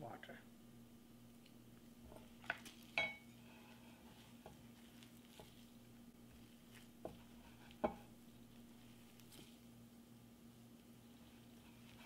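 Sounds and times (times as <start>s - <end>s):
steady low hum: 0.0s - 12.0s
hands squishing wet dough: 1.5s - 12.0s.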